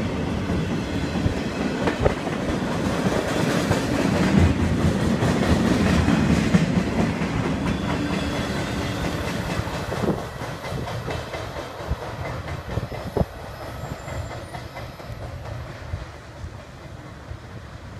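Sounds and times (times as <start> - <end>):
freight train wheels clacking: 0.0 - 17.5.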